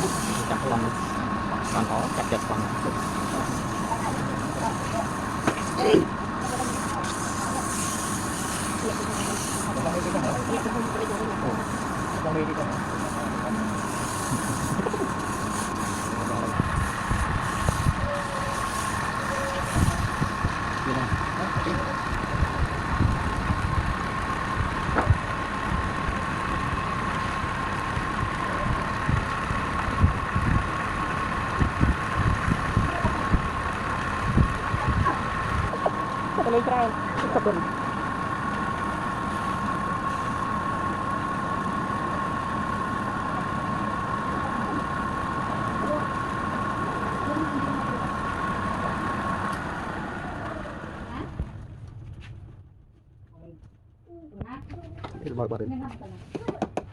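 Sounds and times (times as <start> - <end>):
wood lathe running: 0.0 - 51.2.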